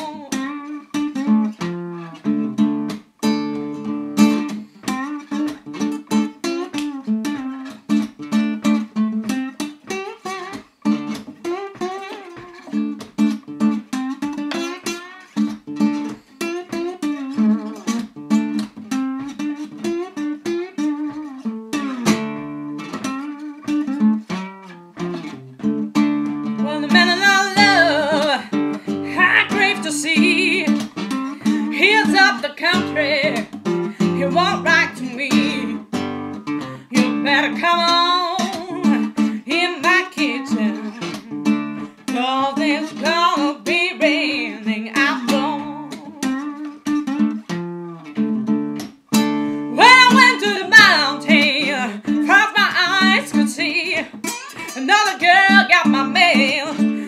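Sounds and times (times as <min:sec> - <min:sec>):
acoustic guitar playing blues: 0:00.0 - 0:57.0.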